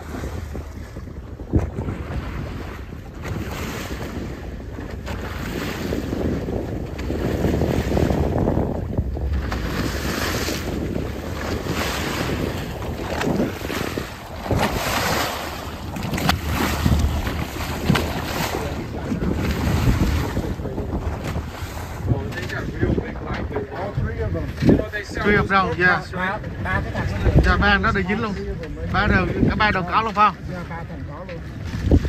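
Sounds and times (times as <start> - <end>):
wash of waves: 0.0 - 32.0
wind gusting over microphone: 0.0 - 32.0.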